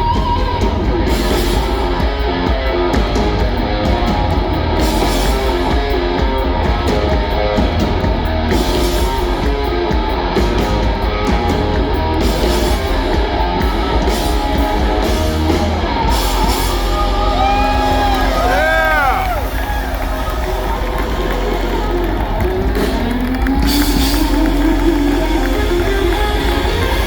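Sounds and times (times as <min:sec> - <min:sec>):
bass and drum kit: 0:00.0 - 0:27.0
distorted electric guitar: 0:00.0 - 0:27.0.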